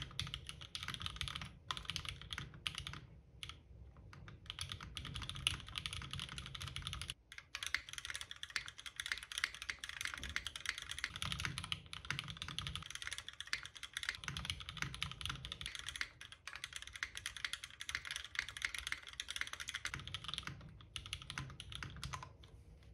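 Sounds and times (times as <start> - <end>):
fast typing on mechanical keyboard: 0.0 - 22.4.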